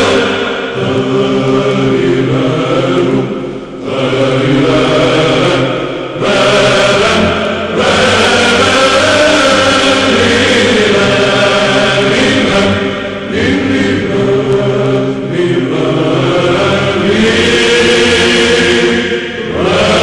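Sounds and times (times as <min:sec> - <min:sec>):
voices chanting a hymn: 0:00.0 - 0:20.0.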